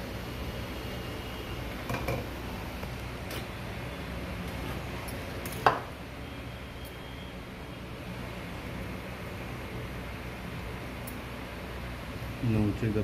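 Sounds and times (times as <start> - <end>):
hot air station blowing: 0.0 - 13.0.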